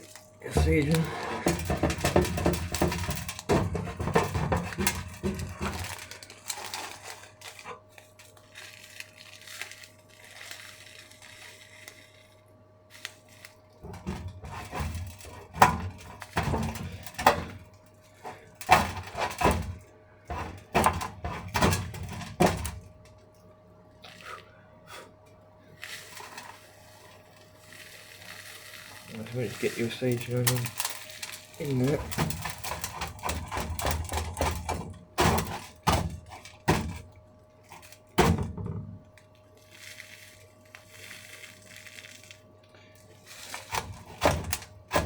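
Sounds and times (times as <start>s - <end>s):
rustling and scraping: 0.0s - 24.4s, 25.6s - 45.0s.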